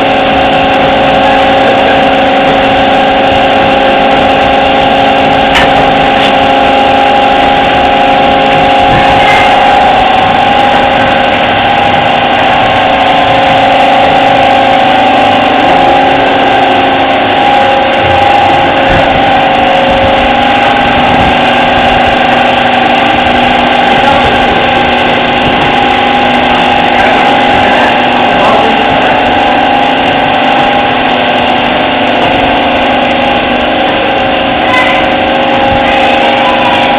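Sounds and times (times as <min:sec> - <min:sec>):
packing machine mechanical drone: 0:00.0 - 0:36.9.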